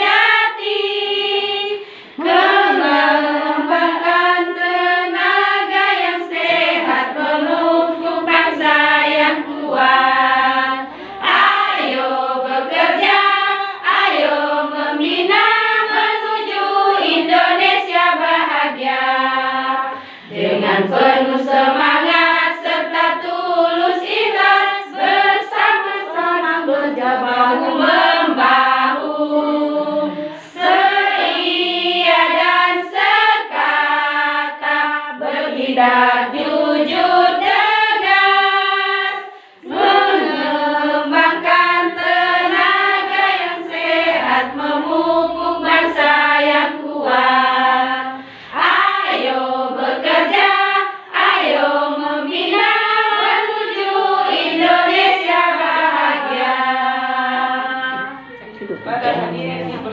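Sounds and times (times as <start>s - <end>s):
women singing in chorus: 0.0s - 59.9s.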